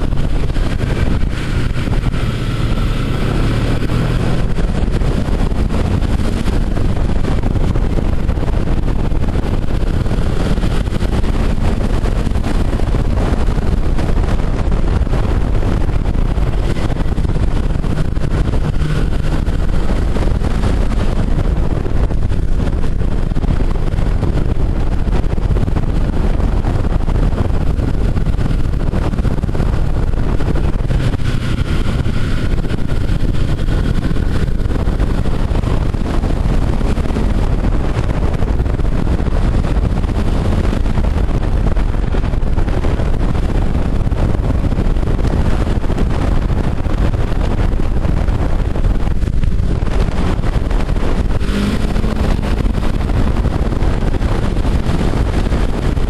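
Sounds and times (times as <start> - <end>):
snowmobile engine running: 0.0 - 56.0
wind buffeting microphone: 0.0 - 56.0.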